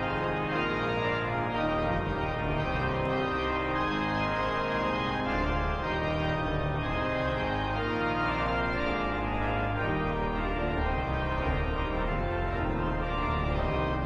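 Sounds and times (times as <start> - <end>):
church organ chords: 0.0 - 14.0.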